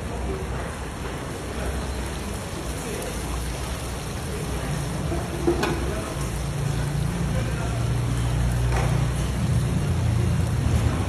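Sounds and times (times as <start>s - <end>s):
broth bubbling and sizzling: 0.0s - 11.0s.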